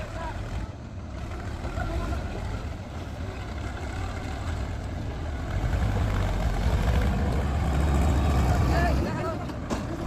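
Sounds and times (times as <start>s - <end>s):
heavy machinery diesel engine: 0.0s - 10.0s.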